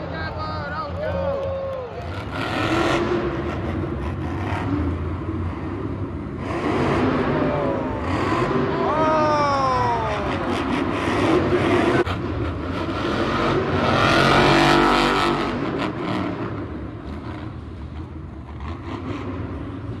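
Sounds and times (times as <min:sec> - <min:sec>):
truck engine revving hard: 0:02.0 - 0:20.0.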